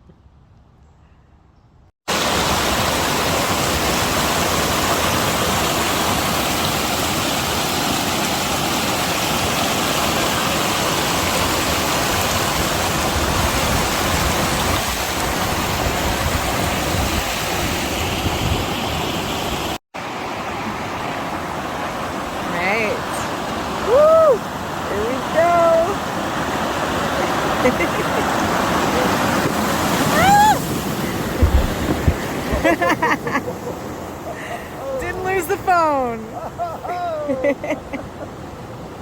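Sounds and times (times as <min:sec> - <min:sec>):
flowing water rushing: 0:02.1 - 0:39.0.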